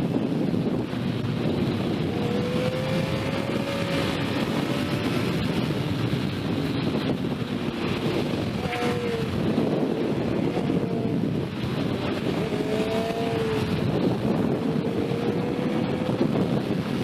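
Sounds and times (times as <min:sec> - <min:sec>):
wind rushing over microphone: 0:00.0 - 0:17.0
motorcycle engine: 0:00.8 - 0:17.0.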